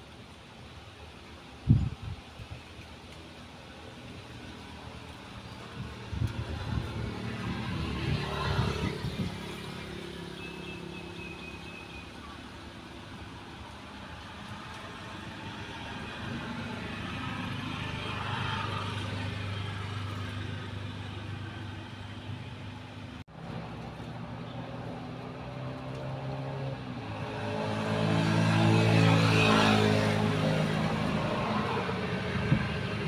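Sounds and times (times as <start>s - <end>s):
vehicle engine humming: 2.8s - 33.0s.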